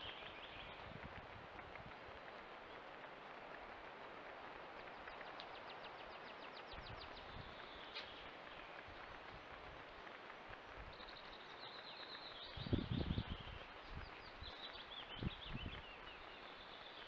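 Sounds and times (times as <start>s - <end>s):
outdoor ambient hiss: 0.0s - 17.0s.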